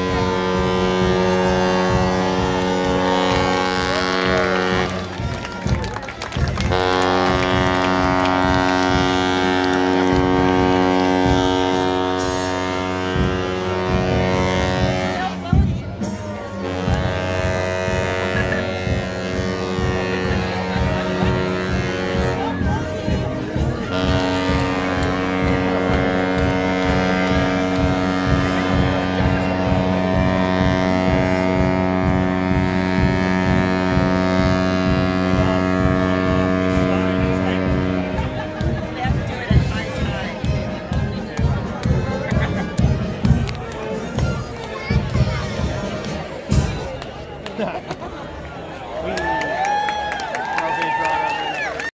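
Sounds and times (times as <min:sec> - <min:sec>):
ship's horn blast: 0:00.0 - 0:43.4.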